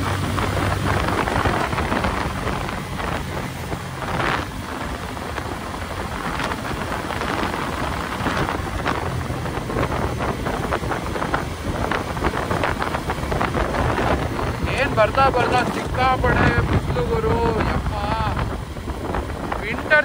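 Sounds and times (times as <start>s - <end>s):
motorcycle engine cruising: 0.0s - 20.0s
wind noise on microphone: 0.0s - 20.0s.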